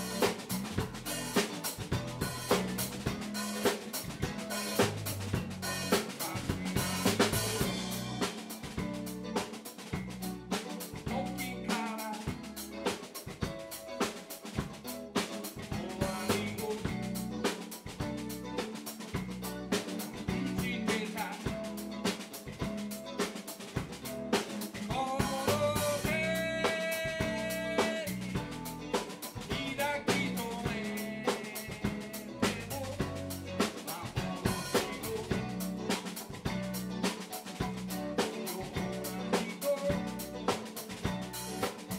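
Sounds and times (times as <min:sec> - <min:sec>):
drum kit beat: 0:00.0 - 0:41.9
electric bass: 0:00.0 - 0:41.9
electric guitar: 0:00.0 - 0:41.9.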